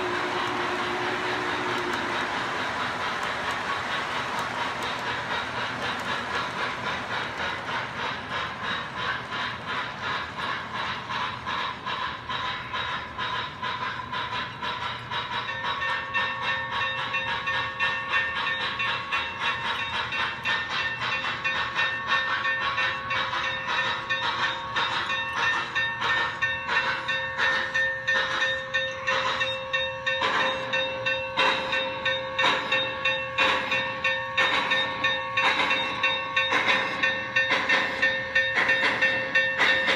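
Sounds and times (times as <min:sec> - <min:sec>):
model locomotive steam chuffing: 0:00.0 - 0:39.9
wheels clicking on track: 0:00.0 - 0:39.9.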